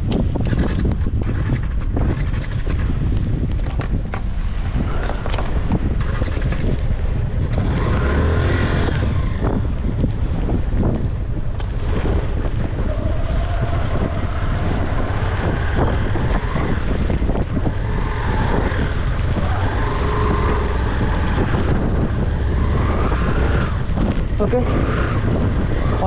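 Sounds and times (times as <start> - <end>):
constant low rumble: 0.0 - 26.0
wind buffeting microphone: 0.0 - 26.0.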